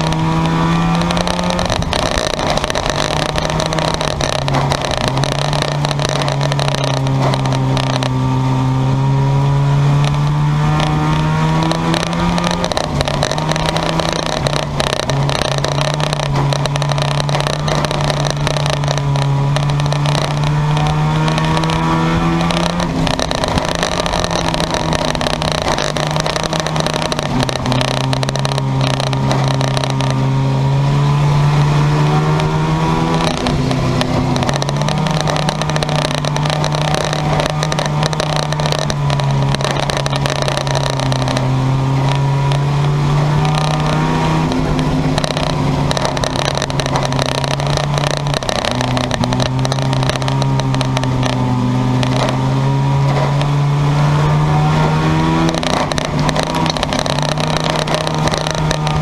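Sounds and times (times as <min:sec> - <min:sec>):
race car engines: 0:00.0 - 0:59.0.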